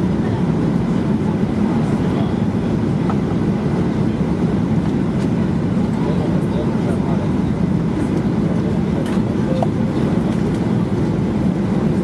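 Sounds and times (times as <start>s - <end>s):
airliner cabin noise: 0.0s - 12.0s
faint passenger voices: 0.0s - 12.0s.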